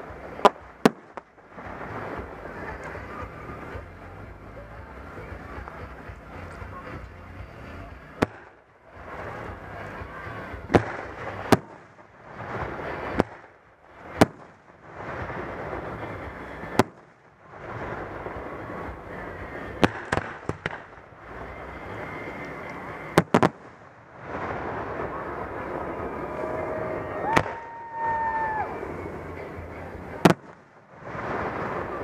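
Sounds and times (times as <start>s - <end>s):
fireworks bursting with bangs: 0.0s - 32.0s
steady background noise: 0.0s - 32.0s.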